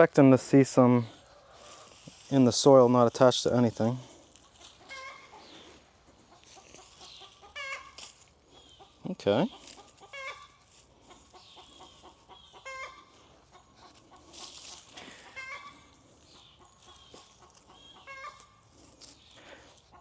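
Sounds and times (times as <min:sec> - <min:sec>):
chickens clucking: 0:00.0 - 0:20.0
sharp chicken calls: 0:01.1 - 0:20.0.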